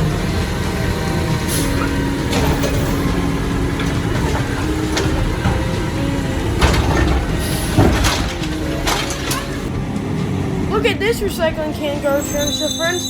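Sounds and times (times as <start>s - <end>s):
garbage truck engine rumbling: 0.0s - 13.0s.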